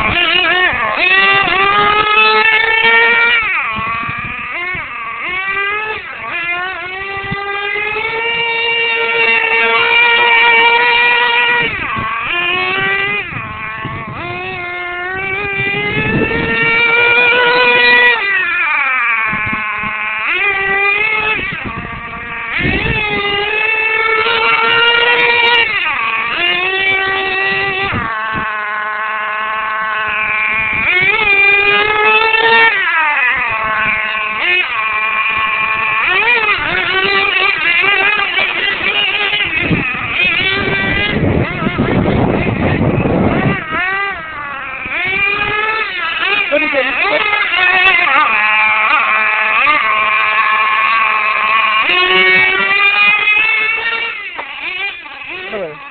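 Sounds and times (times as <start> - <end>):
small engine revving high: 0.0 - 55.9.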